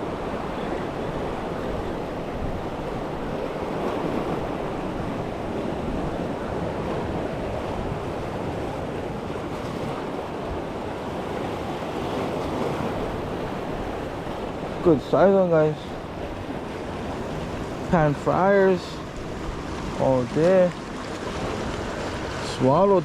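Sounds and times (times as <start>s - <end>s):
wind buffeting microphone: 0.0s - 15.0s, 15.6s - 23.0s
ocean surf washing on shore: 0.0s - 23.0s.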